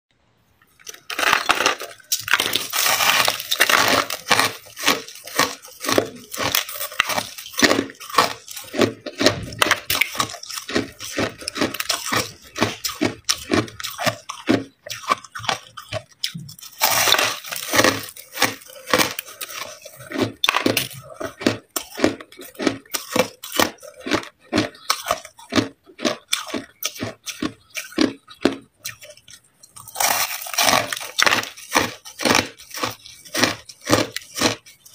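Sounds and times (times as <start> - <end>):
ice being chewed crunching: 0.6 - 34.9.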